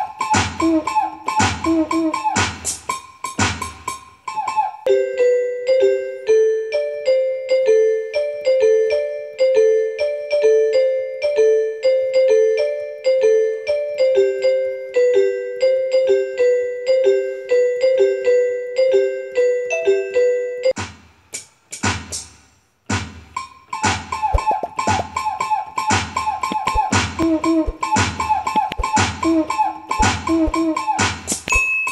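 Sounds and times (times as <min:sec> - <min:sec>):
keyboard tune of repeating notes: 0:00.0 - 0:20.8, 0:23.6 - 0:31.9.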